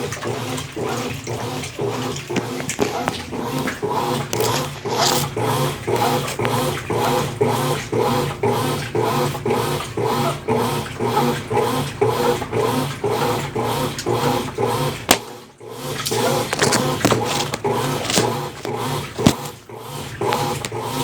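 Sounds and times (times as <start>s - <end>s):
washing machine agitator churning: 0.0s - 21.0s.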